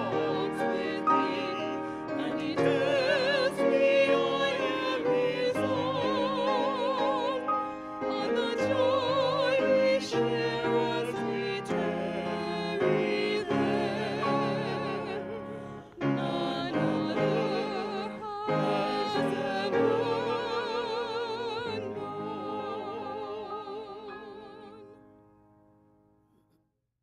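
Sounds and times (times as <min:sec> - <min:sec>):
choir singing a hymn: 0:00.0 - 0:24.9.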